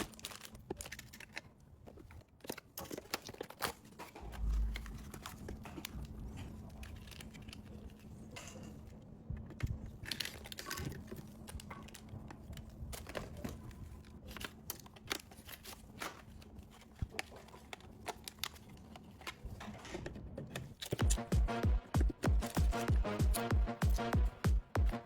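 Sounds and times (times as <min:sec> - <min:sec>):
plastic rustling: 0:00.0 - 0:21.3.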